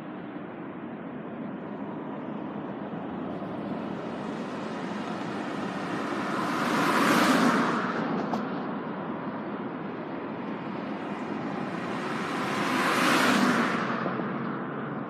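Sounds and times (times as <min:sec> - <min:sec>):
rushing noise: 0:01.2 - 0:15.0.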